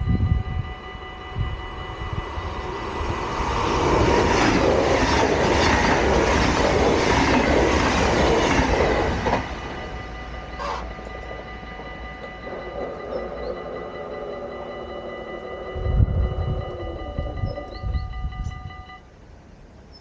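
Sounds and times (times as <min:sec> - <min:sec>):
level crossing warning bell: 0:00.0 - 0:19.2
train wheel and rail noise: 0:00.0 - 0:20.0.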